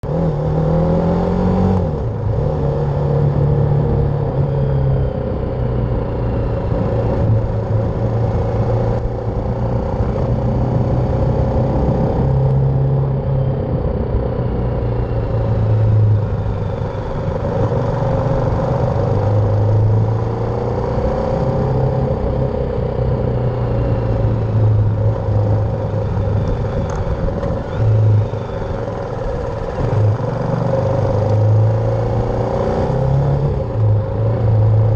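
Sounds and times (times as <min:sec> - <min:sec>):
motorcycle engine revving: 0:00.0 - 0:34.9
road and wind noise: 0:00.0 - 0:34.9.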